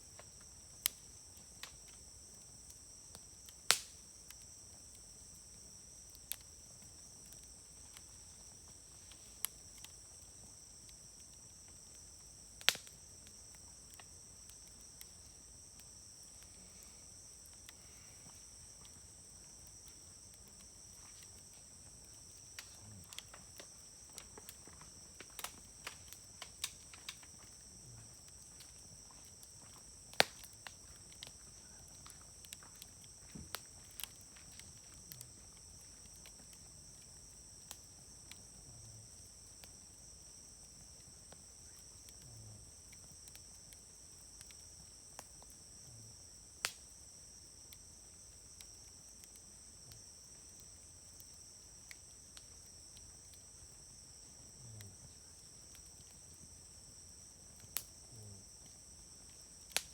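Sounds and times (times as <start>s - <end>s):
insects trilling: 0.0s - 59.9s
wood fire crackling and popping: 0.0s - 59.9s.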